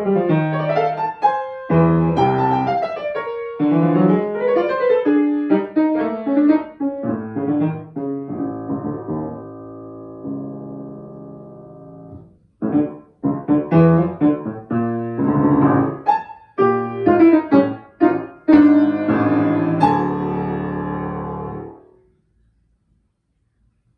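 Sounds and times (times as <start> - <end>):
grand piano chords: 0.0 - 22.0.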